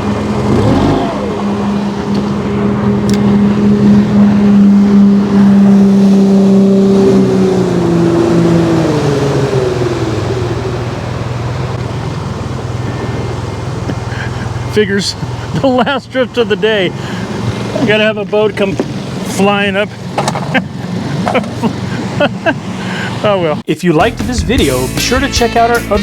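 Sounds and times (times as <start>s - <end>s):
motorboat engine passing by: 0.0s - 23.6s.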